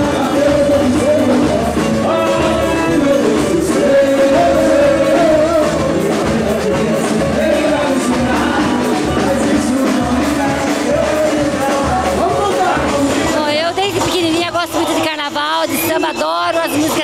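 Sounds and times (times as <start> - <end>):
carnival music with singer: 0.0 - 17.0.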